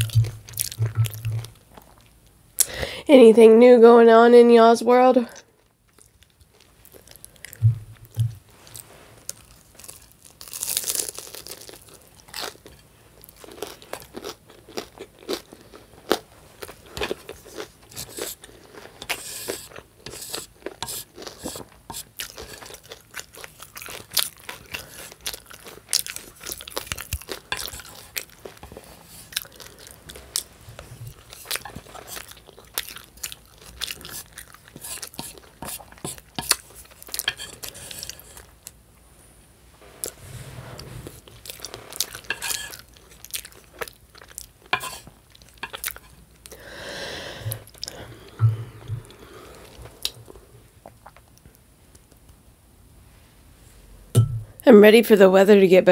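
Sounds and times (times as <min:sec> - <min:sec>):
chewing crunchy food: 0:00.0 - 0:02.3, 0:05.6 - 0:38.8, 0:41.2 - 0:46.6, 0:47.5 - 0:52.3.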